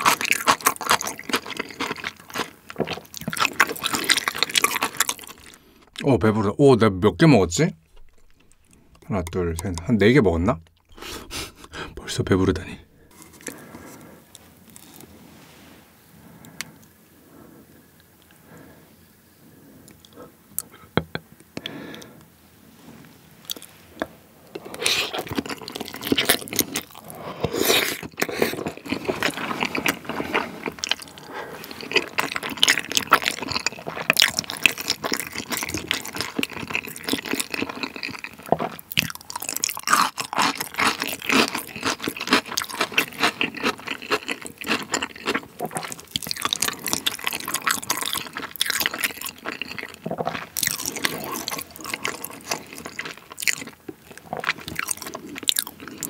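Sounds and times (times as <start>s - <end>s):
wet chewing mouth sounds: 0.0s - 6.1s, 7.8s - 9.9s, 10.6s - 12.1s, 12.8s - 15.1s, 19.8s - 21.0s, 23.4s - 56.0s.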